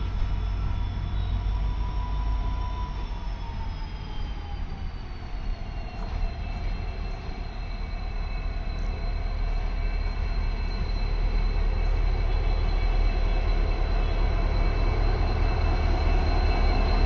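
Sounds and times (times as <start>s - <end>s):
diesel locomotive engine rumble: 0.0s - 17.0s
high engine whine: 0.0s - 17.0s.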